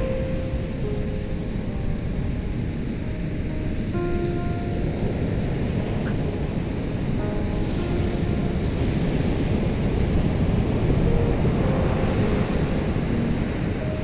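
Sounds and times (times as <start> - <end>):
ocean surf breaking on shore: 0.0 - 14.0.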